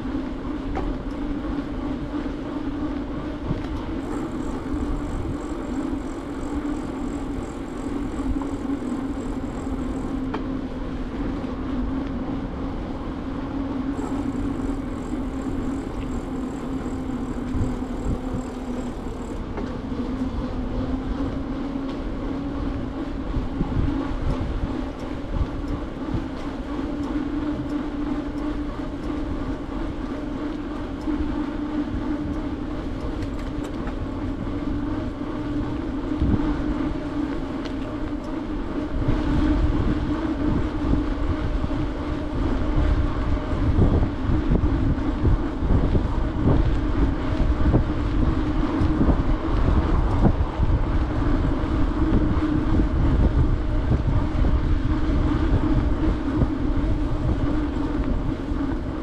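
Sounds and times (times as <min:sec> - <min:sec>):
bicycle tyres humming: 0:00.0 - 0:59.0
road vibration rumble: 0:00.0 - 0:59.0
wind: 0:00.0 - 0:59.0.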